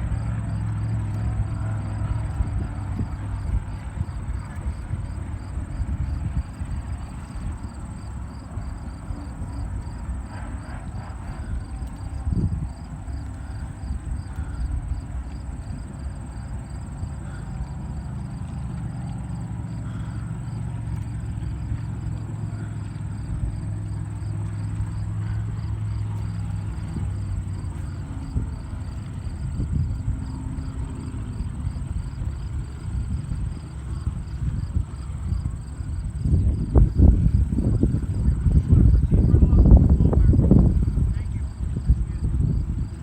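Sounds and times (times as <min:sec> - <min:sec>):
hydroplane engine drone: 0:00.0 - 0:43.0
insects chirping: 0:00.0 - 0:43.0
wind buffeting microphone: 0:00.0 - 0:43.0.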